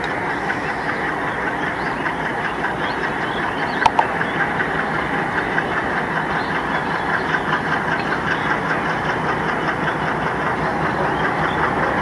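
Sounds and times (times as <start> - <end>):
diesel locomotive engine rumble: 0.0 - 12.0
faint rhythmic ticking: 0.0 - 12.0.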